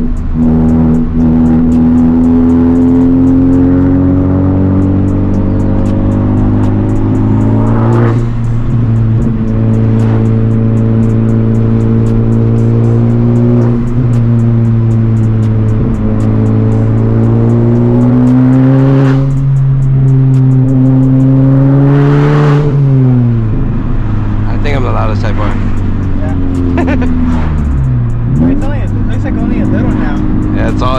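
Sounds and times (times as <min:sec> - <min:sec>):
turbocharged car engine revving: 0:00.0 - 0:30.9.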